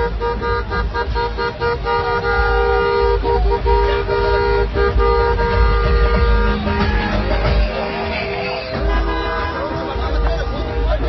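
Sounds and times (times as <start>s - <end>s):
car horns honking: 0.0s - 11.0s.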